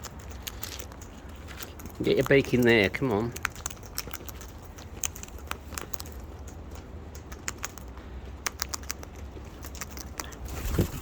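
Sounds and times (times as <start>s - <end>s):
birds pecking at food: 0.0s - 11.0s.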